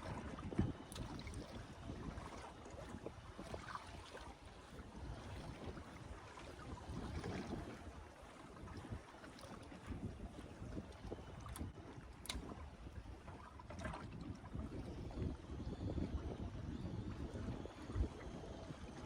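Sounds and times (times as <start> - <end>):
water sloshing against boat hull: 0.0 - 19.0
wind on microphone: 0.0 - 19.0.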